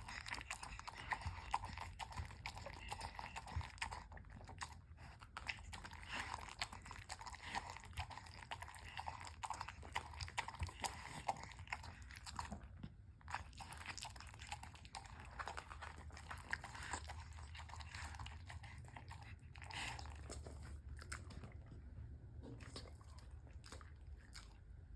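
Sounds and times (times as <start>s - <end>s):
dog crunching food: 0.0s - 21.7s, 22.4s - 24.7s.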